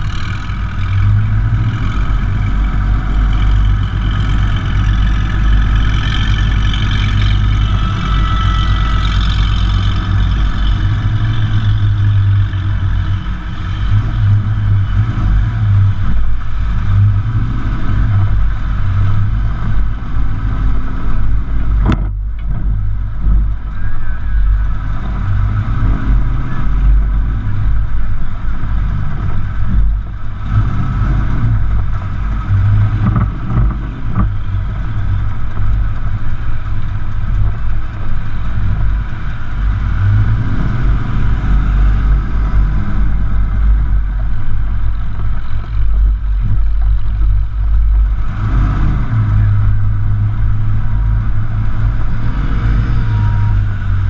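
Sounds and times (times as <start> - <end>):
truck exhaust rumble: 0.0 - 54.0.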